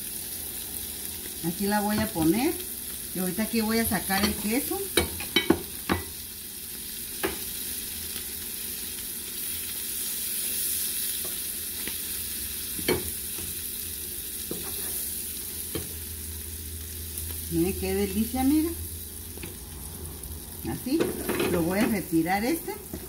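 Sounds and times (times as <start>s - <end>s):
cheese sizzling in a skillet: 0.0s - 23.0s.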